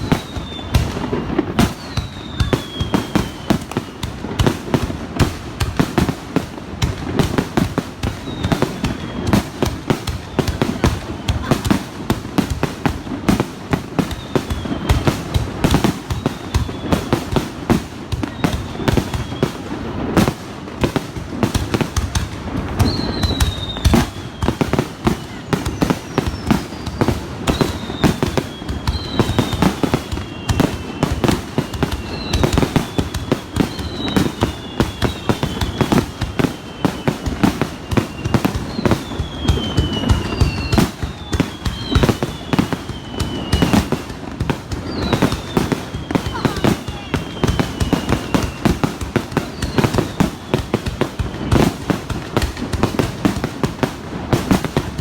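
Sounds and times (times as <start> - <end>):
falling firework whistles: 0.0 - 55.0
fireworks launches and bursts: 0.0 - 55.0.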